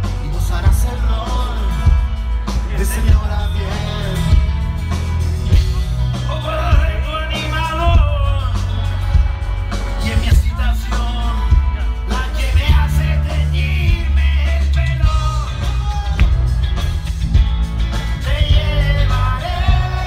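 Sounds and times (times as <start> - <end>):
bass guitar: 0.0 - 20.0
drums: 0.0 - 20.0
electric guitars: 0.0 - 20.0.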